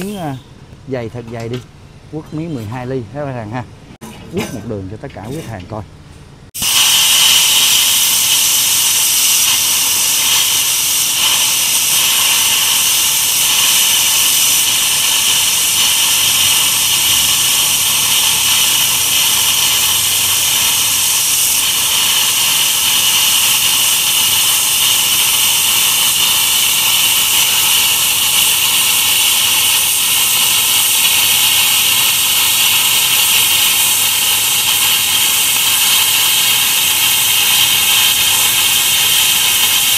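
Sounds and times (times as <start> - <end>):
plasma cutter hissing: 0.0 - 0.4, 6.6 - 39.9.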